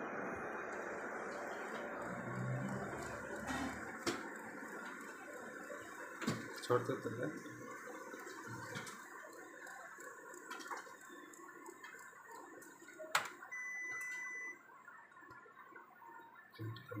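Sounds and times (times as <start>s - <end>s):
printer whirring and ticking: 0.0s - 15.7s.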